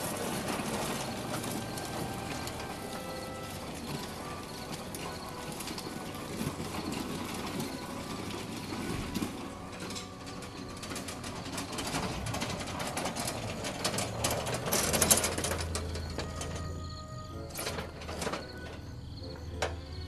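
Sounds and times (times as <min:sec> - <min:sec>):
gravel scraping and crunching: 0:00.0 - 0:19.8.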